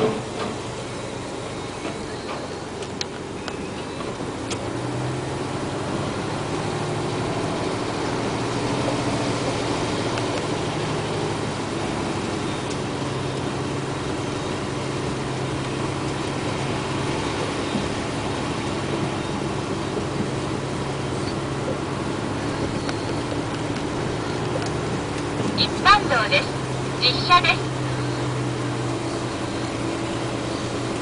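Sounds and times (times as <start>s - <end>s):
dump truck diesel engine running: 0.0s - 31.0s.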